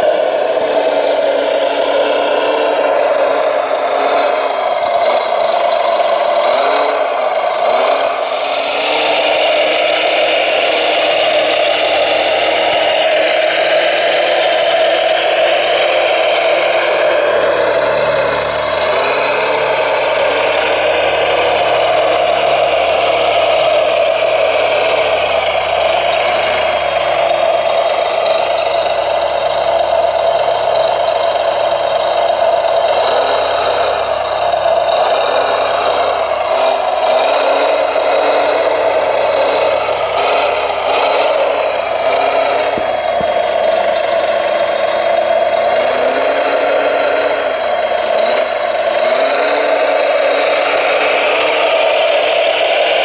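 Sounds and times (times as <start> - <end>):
motor and hydraulic pump whine: 0.0 - 53.0.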